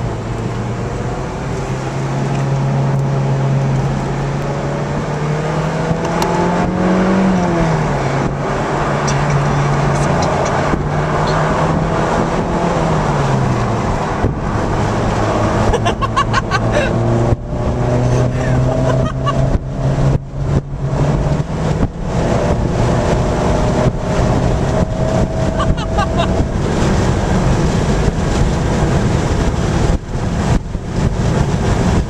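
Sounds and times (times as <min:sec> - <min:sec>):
car engine: 0:00.0 - 0:32.0
road noise: 0:00.0 - 0:32.0.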